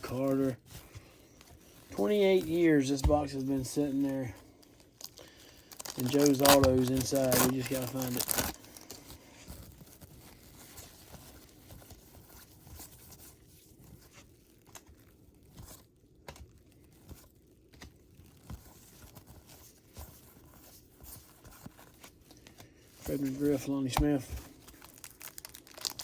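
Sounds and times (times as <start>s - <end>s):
card packs rustling and crinkling: 0.0s - 26.0s.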